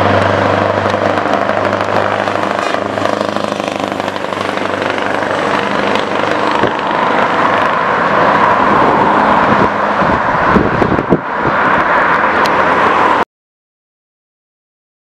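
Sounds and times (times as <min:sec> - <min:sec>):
truck engine running loud: 0:00.0 - 0:13.2.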